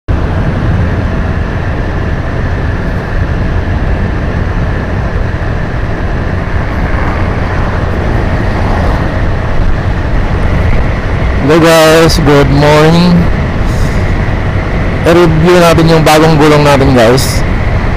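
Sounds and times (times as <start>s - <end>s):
motorcycle running: 0.1s - 17.9s
wind rush on microphone: 0.1s - 17.9s.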